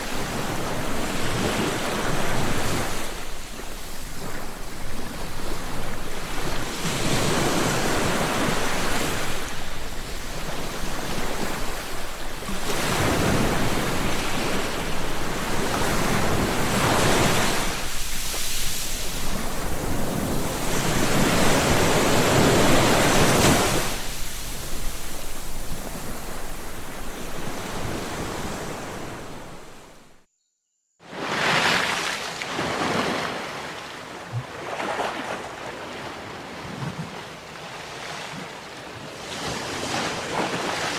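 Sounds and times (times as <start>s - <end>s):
sea waves breaking on shore: 0.0s - 30.2s, 31.0s - 40.9s.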